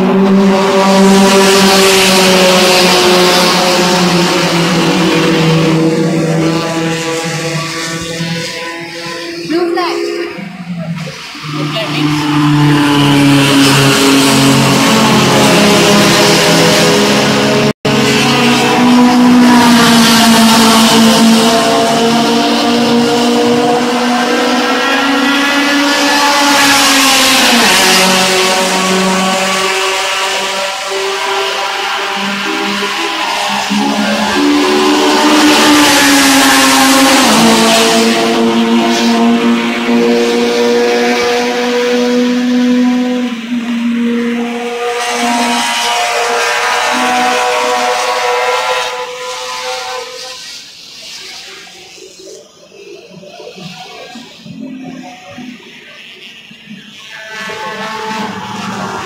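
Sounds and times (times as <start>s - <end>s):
car engine passing at full throttle: 0.0s - 59.0s.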